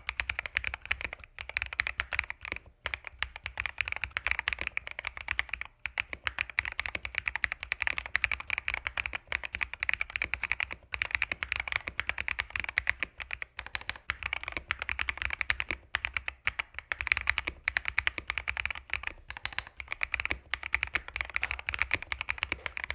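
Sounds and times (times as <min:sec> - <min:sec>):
typing on mechanical keyboard: 0:00.0 - 0:22.9.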